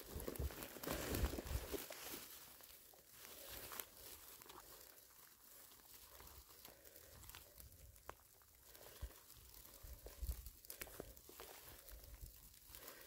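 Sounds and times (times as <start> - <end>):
rustling on forest floor: 0.0 - 13.0.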